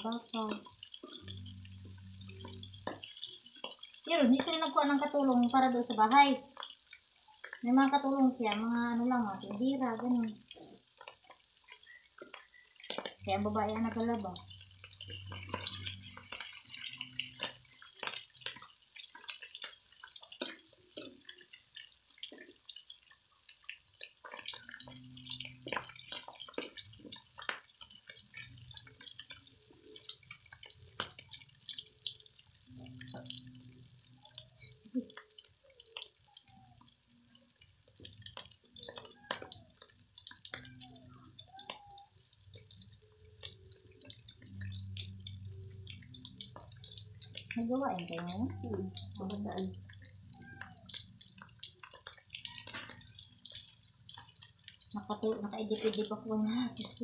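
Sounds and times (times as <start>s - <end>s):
meat sizzling in a wok: 0.0s - 57.0s.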